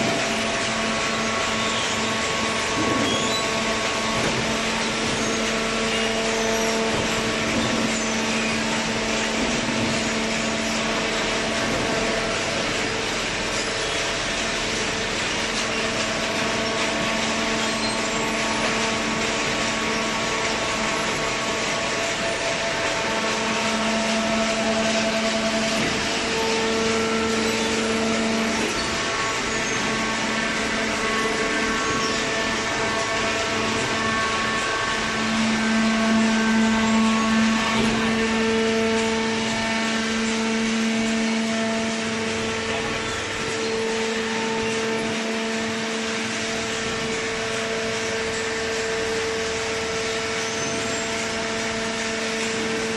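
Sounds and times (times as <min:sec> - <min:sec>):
baler machine hum with hiss: 0:00.0 - 0:52.9.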